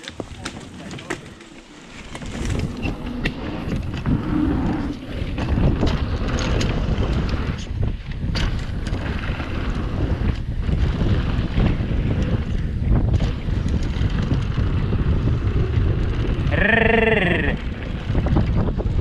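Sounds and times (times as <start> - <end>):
bike clattering and ticking: 0.0 - 19.0
bike tyres rumbling on dirt: 0.0 - 19.0
wind buffeting microphone: 0.0 - 19.0.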